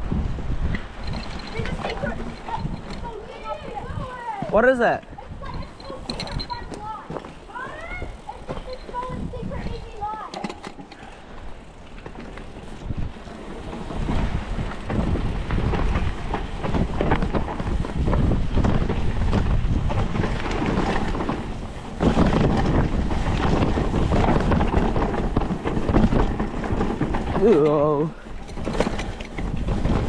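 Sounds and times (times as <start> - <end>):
wind on microphone: 0.0 - 10.2, 11.2 - 30.0
bike rattling over bumps: 0.0 - 30.0
bike tyres on dirt: 0.0 - 30.0.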